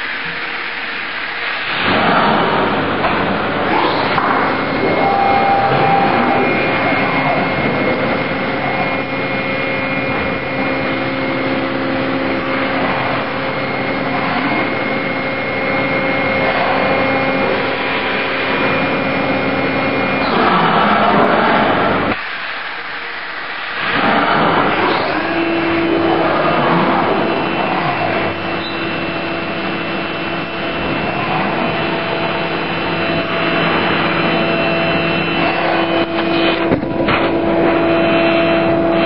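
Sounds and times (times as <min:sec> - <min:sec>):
milling machine whining: 0:00.0 - 0:39.0.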